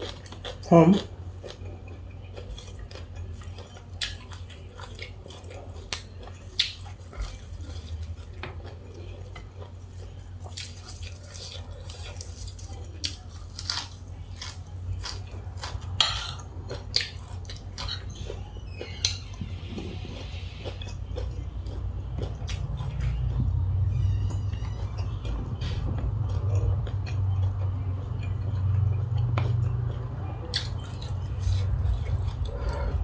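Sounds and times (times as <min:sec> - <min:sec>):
person chewing food: 0:00.0 - 0:33.0
steady low hum: 0:00.0 - 0:33.0.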